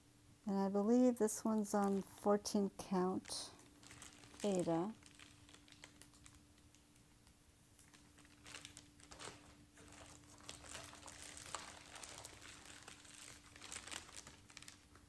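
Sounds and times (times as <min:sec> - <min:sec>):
plastic packaging crinkling: 0:02.8 - 0:15.0.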